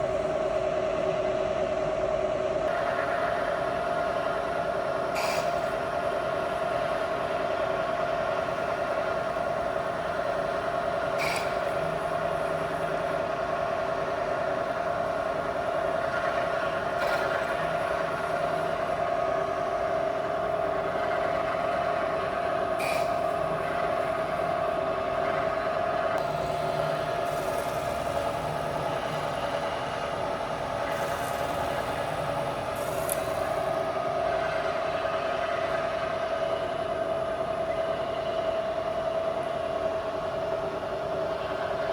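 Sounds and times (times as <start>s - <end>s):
mill spindle whine: 0.0s - 41.9s.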